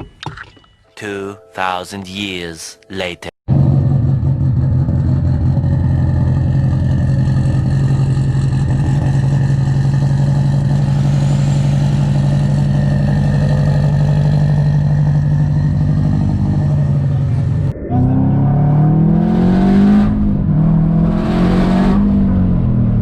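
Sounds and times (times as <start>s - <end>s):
car engine running: 3.5s - 23.0s.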